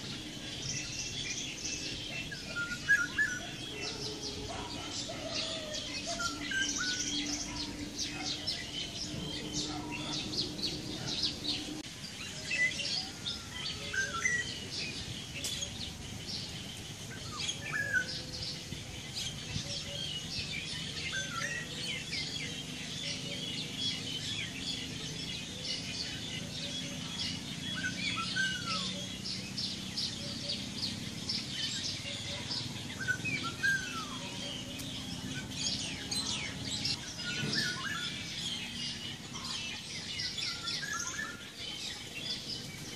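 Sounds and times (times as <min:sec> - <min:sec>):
songbirds chirping and twittering: 0:00.0 - 0:42.9.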